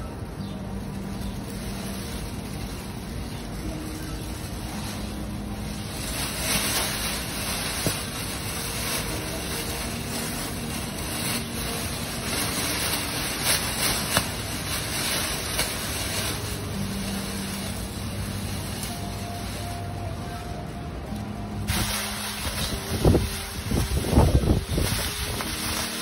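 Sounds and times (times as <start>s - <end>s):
plastic bag flapping and rustling: 0.0s - 26.0s
wind blowing: 0.0s - 26.0s.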